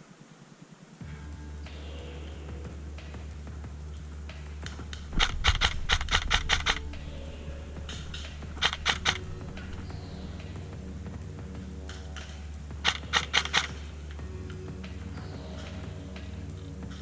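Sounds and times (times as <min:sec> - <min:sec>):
steady low hum: 0:01.0 - 0:17.0.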